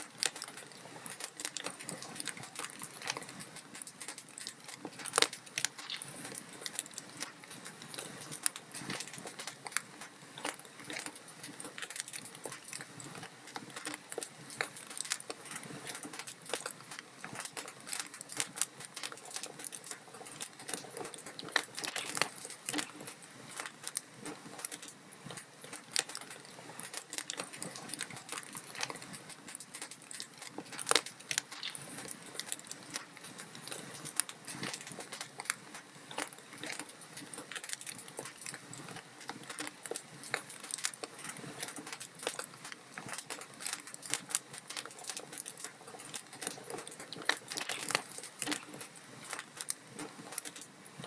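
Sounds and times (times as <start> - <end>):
log fire crackling: 0.0 - 51.0.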